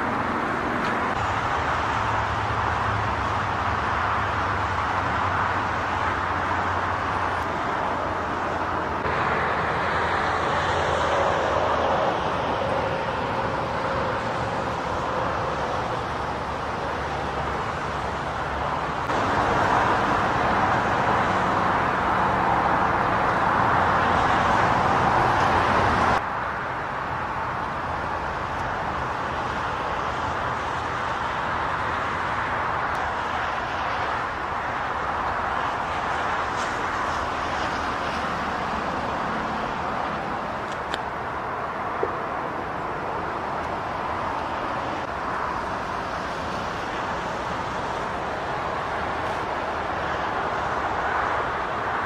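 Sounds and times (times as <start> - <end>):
road traffic rushing: 0.0 - 52.0.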